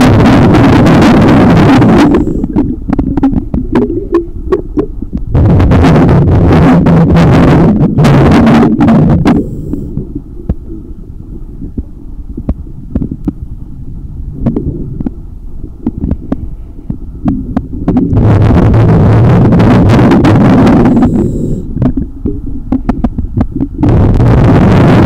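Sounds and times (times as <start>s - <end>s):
low hum: 0.0s - 25.0s
underwater water rumbling: 0.0s - 25.0s.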